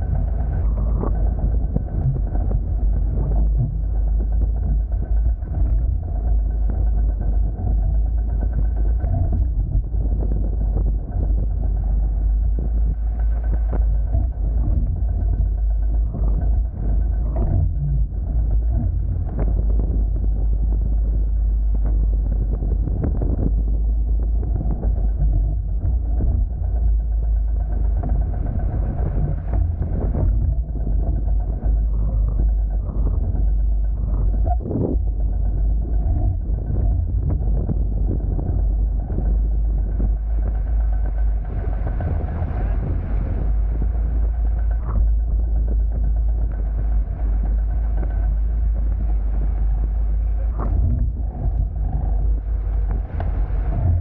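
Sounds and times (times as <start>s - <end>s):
water rushing along hulls: 0.0s - 54.0s
wind buffeting microphone: 0.0s - 54.0s.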